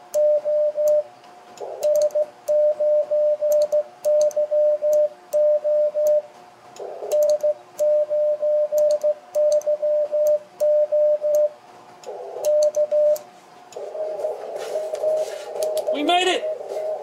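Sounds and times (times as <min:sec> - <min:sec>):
morse code beeps: 0:00.2 - 0:01.1, 0:01.8 - 0:06.3, 0:07.1 - 0:11.6, 0:12.5 - 0:13.2, 0:13.9 - 0:17.0.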